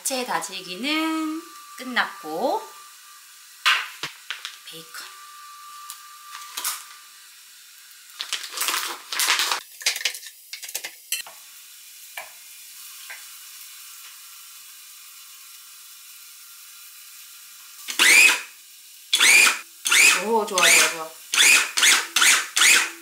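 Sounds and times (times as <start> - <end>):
bacon sizzling in a pan: 0.0 - 21.5.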